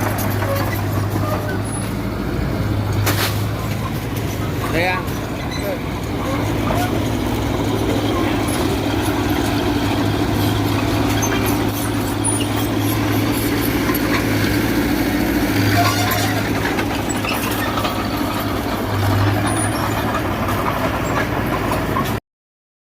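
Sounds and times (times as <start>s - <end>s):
bulldozer diesel engine running: 0.0s - 22.2s.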